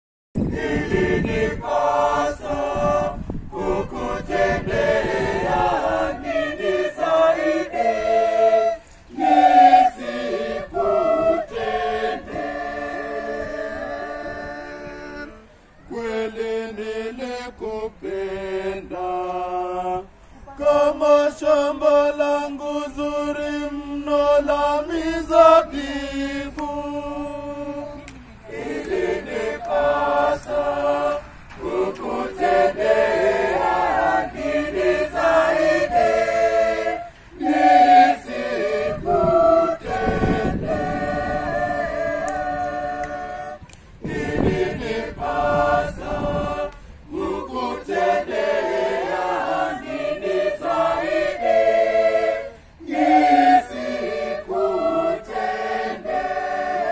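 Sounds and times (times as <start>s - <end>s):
choir singing: 0.4s - 56.9s.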